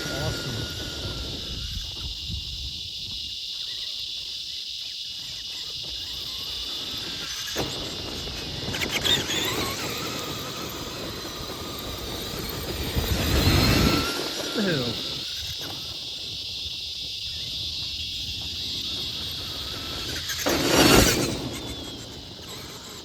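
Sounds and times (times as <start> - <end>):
electric motor whining: 0.0 - 2.8, 5.4 - 23.0.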